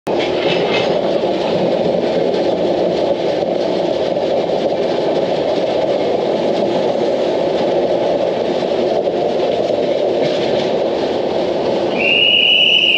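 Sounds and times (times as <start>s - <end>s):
train wheels rumbling on rails: 0.1s - 12.9s.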